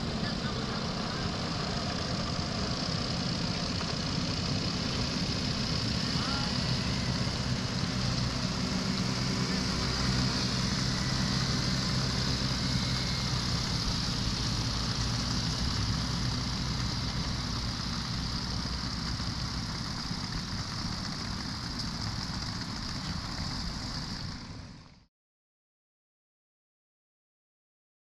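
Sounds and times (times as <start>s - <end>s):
low engine drone: 0.0s - 25.1s.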